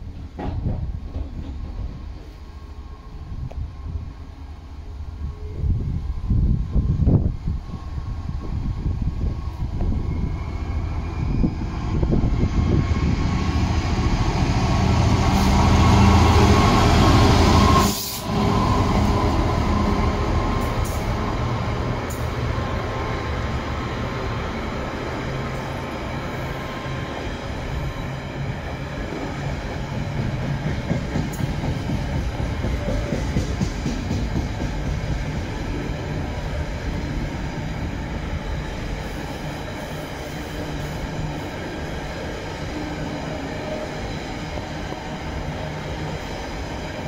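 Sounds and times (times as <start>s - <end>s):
diesel locomotive engine passing: 0.1s - 47.0s.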